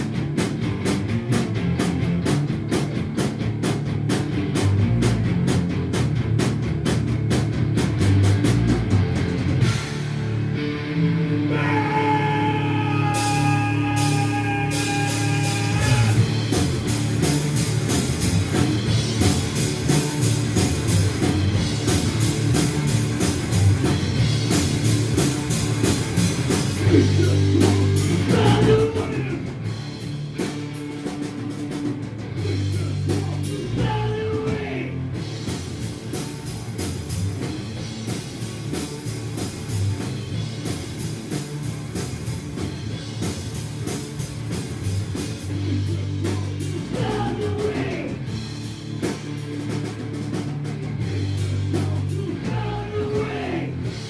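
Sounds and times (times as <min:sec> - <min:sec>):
live rock music: 0:00.0 - 0:54.0.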